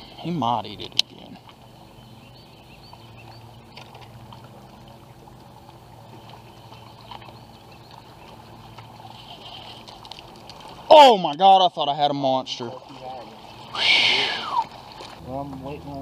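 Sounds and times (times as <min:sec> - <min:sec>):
low steady hum: 0:00.0 - 0:16.0
water lapping: 0:00.0 - 0:16.0.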